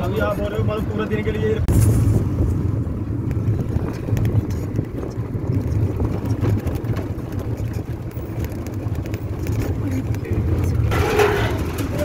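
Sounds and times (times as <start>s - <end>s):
auto-rickshaw engine running: 0.0s - 1.6s, 2.2s - 12.0s.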